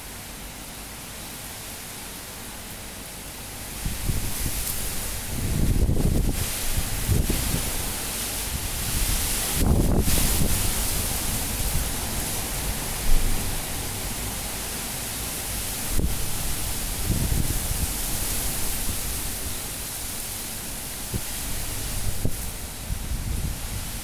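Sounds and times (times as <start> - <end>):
gusting wind: 3.7 - 24.0.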